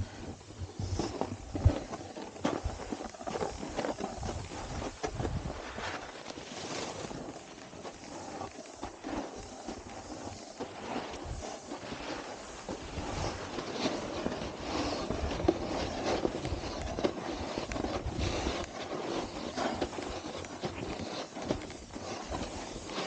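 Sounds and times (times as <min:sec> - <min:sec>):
snowboard scraping over icy snow: 0:00.0 - 0:23.0.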